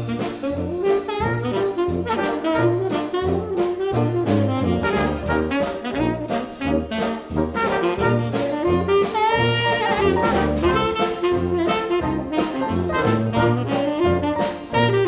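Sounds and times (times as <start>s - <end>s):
upbeat jazz with brass: 0.0s - 15.0s.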